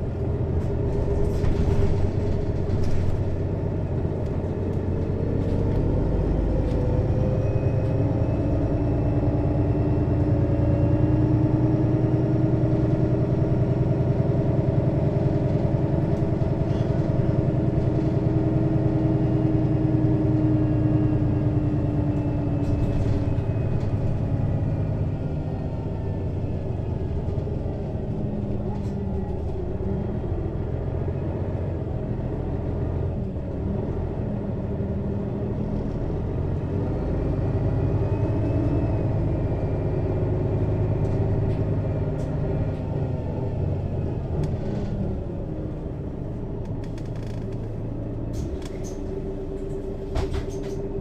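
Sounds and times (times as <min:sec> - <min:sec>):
bus engine under way: 0:00.0 - 0:51.0.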